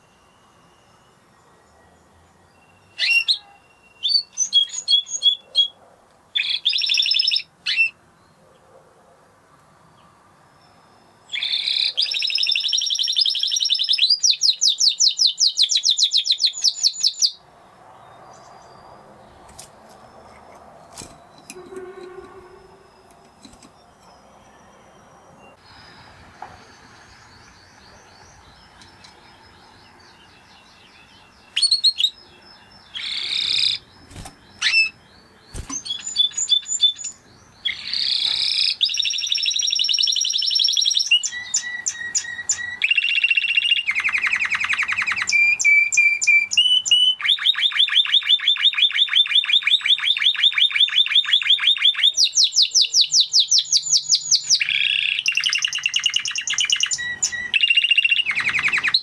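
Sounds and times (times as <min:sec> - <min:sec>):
canary singing trills: 0:00.0 - 0:08.8, 0:09.8 - 0:17.4, 0:18.0 - 0:59.0.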